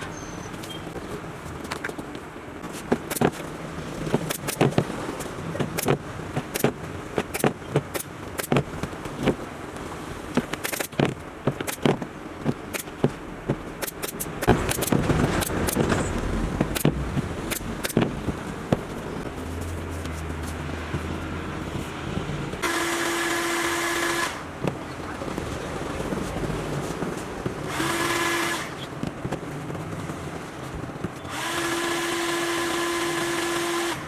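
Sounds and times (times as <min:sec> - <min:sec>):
road traffic hum: 0:00.0 - 0:34.0
upholstery work clacks and knocks: 0:00.5 - 0:22.8, 0:24.2 - 0:33.5.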